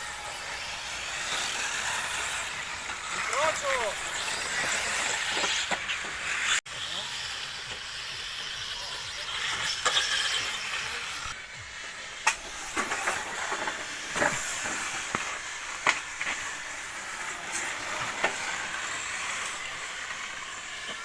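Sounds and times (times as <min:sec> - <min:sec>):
rc car motors whining: 0:00.0 - 0:21.0
tyres hissing on loose dirt: 0:00.0 - 0:21.0.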